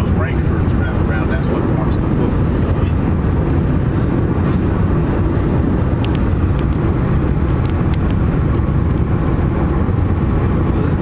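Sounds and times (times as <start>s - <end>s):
car road rumble: 0.0s - 11.0s.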